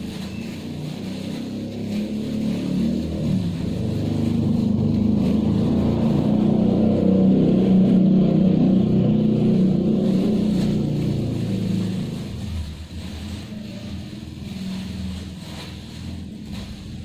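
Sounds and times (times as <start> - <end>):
low motor drone: 0.7 - 16.1.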